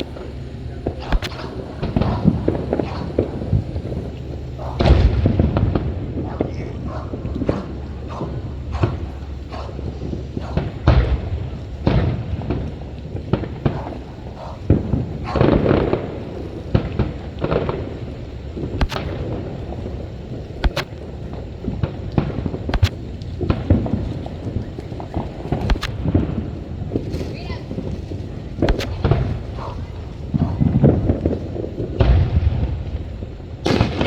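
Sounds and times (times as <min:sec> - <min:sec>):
fireworks bangs and cracks: 0:00.0 - 0:34.0
low rumble of explosions: 0:00.0 - 0:34.0.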